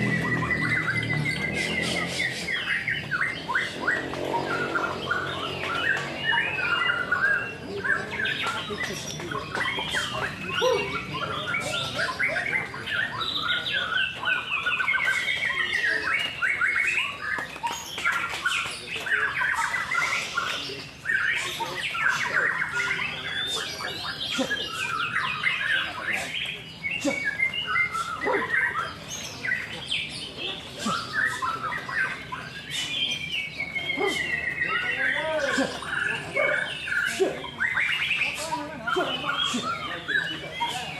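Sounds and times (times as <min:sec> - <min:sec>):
birds singing whistled phrases: 0:00.0 - 0:40.9.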